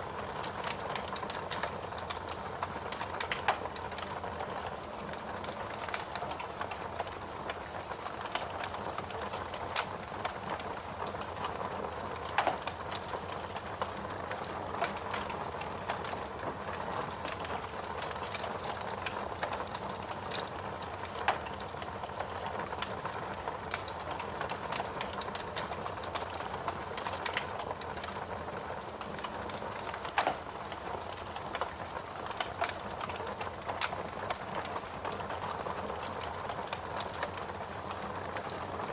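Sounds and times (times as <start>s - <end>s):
wood logs crackling in fireplace: 0.0s - 38.9s
fire popping: 0.1s - 38.9s.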